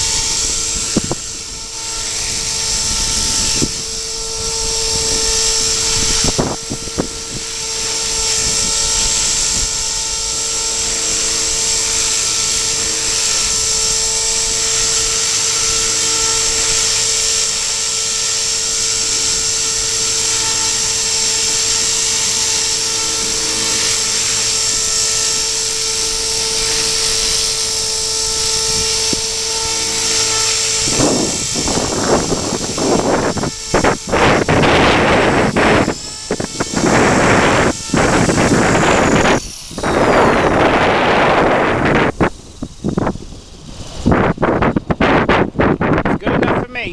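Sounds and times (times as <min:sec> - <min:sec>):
model helicopter rotor whine: 0:00.0 - 0:46.9
wind buffeting microphone: 0:00.0 - 0:46.9.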